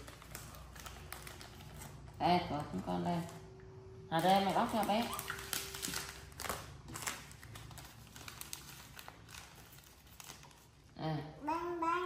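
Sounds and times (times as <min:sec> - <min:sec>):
plastic wrapper rustling and crackling: 0:00.0 - 0:03.4, 0:04.1 - 0:10.9.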